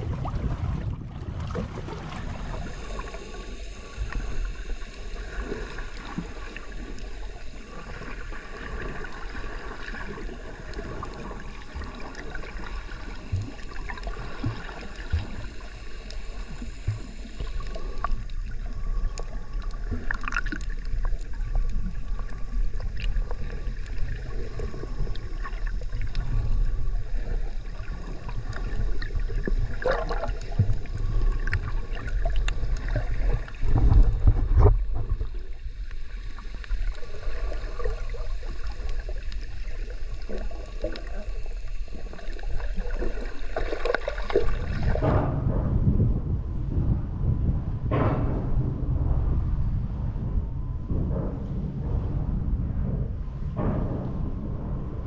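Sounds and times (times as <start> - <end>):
water splashing along boat hull: 0.0 - 55.0
wind rumbling on microphone: 0.0 - 55.0.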